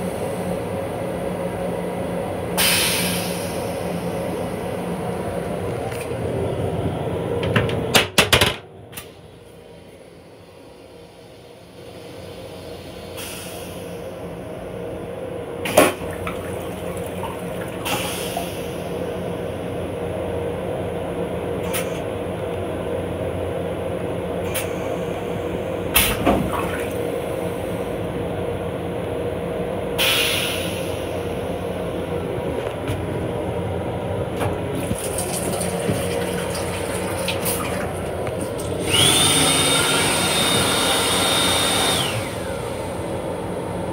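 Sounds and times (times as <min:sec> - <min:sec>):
train rumble and hum: 0:00.0 - 0:43.9.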